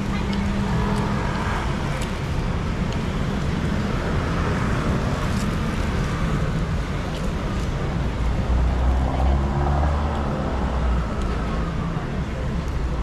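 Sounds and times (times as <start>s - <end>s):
road traffic: 0.0s - 13.0s
vehicle engines running: 0.0s - 13.0s.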